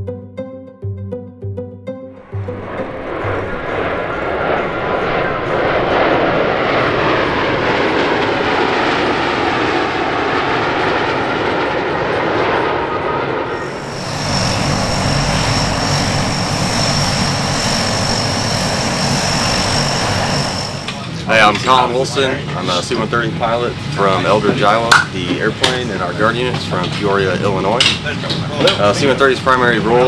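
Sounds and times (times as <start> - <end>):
jets roaring past: 2.1 - 30.0
turboprop engines droning: 2.1 - 30.0.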